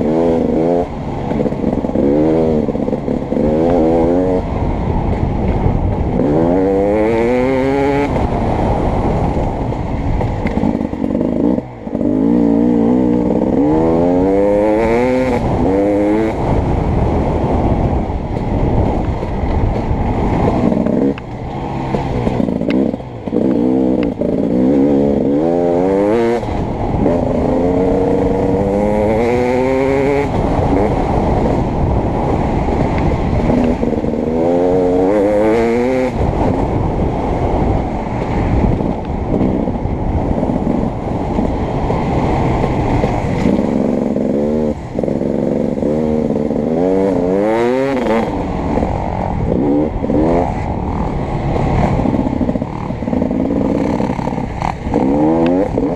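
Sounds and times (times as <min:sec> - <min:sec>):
motocross bike engine revving: 0:00.0 - 0:05.2, 0:05.8 - 0:18.0, 0:19.2 - 0:55.9.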